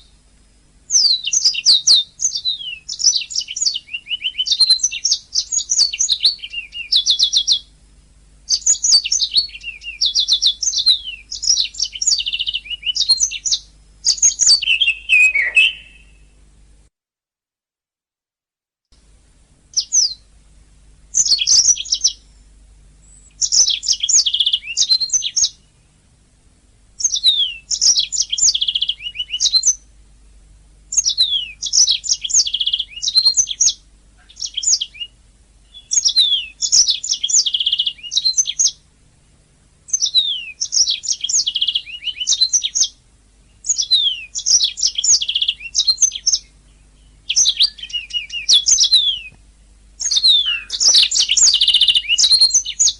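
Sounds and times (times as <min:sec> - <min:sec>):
faint low hum: 0:00.0 - 0:16.9, 0:18.9 - 0:52.9
canary singing: 0:00.9 - 0:07.7, 0:08.5 - 0:16.3, 0:19.7 - 0:20.3, 0:21.1 - 0:22.3, 0:23.0 - 0:25.8, 0:27.0 - 0:29.9, 0:30.9 - 0:38.8, 0:39.9 - 0:49.4, 0:50.0 - 0:52.9.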